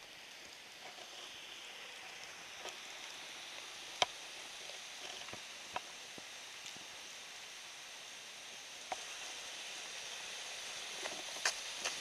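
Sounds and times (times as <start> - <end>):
snowflakes and drops ticking: 0.0 - 12.0
wet snow hissing: 0.0 - 12.0.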